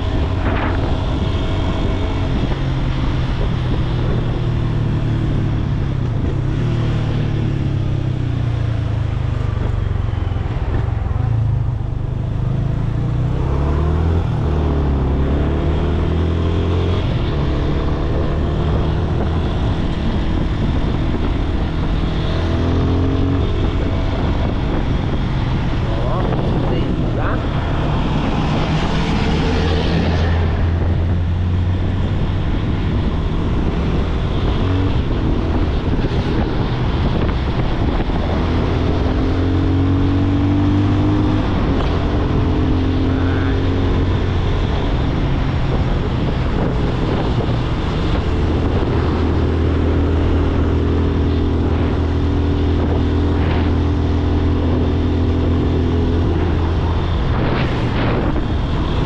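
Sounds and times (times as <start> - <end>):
motorcycle engine revving: 0.0 - 59.0
road and wind noise: 0.0 - 59.0.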